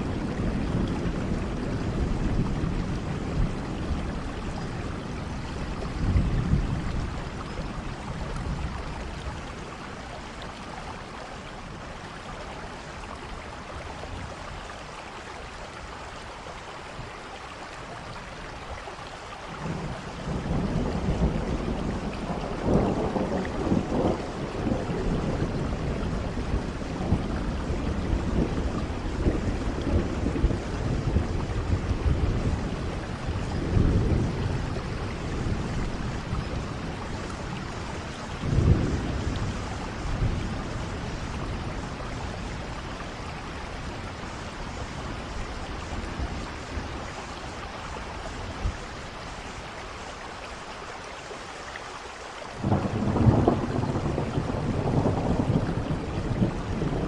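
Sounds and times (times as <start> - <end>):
low rolling thunder: 0.0 - 14.6, 19.5 - 49.7, 52.6 - 57.0
steady rain: 0.0 - 57.0.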